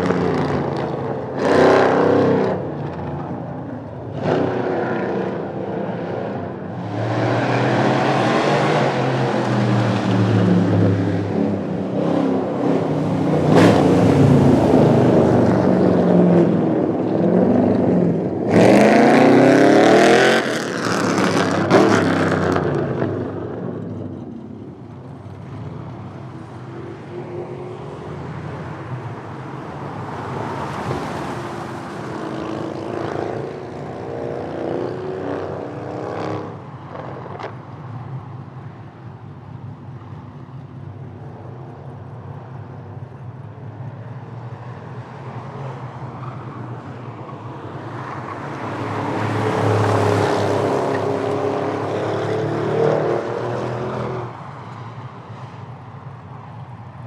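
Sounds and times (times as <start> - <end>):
car engines revving and accelerating: 0.0 - 57.0.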